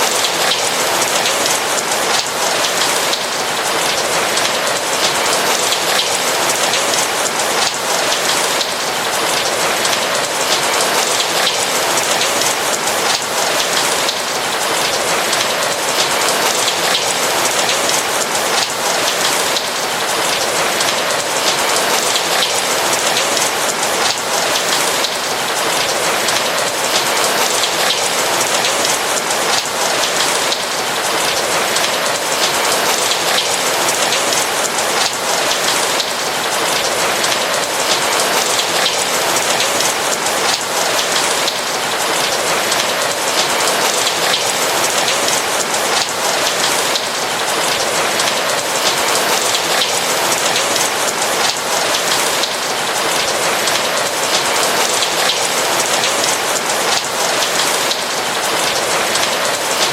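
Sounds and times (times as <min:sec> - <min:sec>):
heavy rain on a roof: 0:00.0 - 0:59.9.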